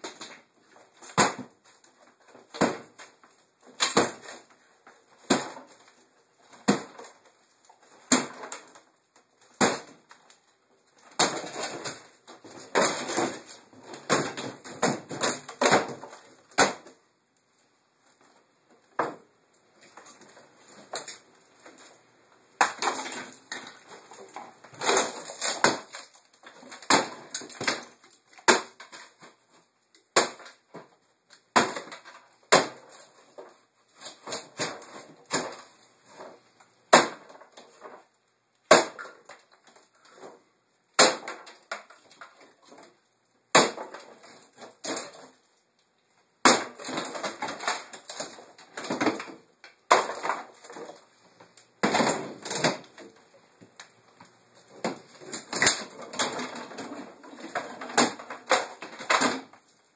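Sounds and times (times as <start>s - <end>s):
wood cracking: 0.0s - 17.0s, 19.8s - 22.0s, 22.6s - 29.5s, 30.1s - 38.0s, 41.0s - 45.5s, 46.4s - 59.8s.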